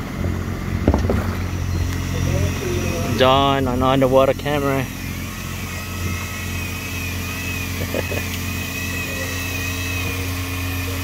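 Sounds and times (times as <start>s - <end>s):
boat engine humming: 0.0s - 11.0s
high-pitched wavering whine: 0.0s - 11.0s.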